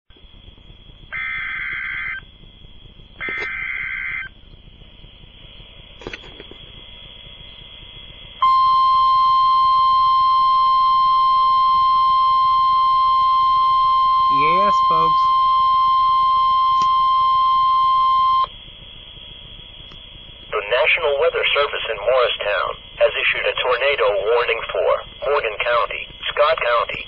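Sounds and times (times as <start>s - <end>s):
steady warning alarm tone: 0.1s - 27.0s
warbling data bursts: 0.1s - 27.0s.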